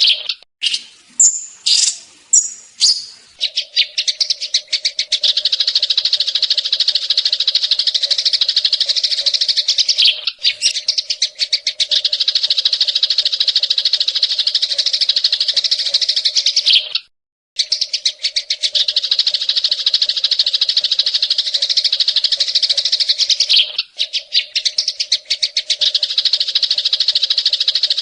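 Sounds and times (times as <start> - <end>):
songbird chattering trill: 0.0 - 28.0.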